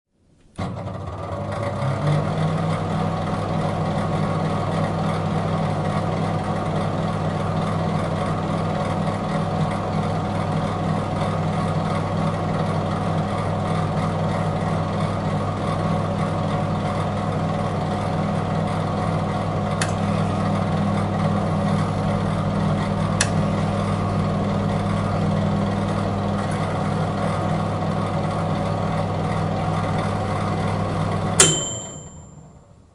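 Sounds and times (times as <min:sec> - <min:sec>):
microwave oven humming: 0:00.5 - 0:32.9.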